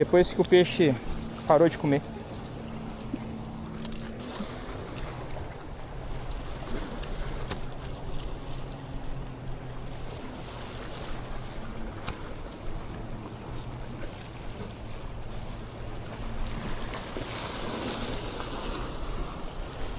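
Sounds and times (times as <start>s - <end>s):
boat motor humming: 0.0s - 19.9s
water and wind noise: 0.0s - 19.9s.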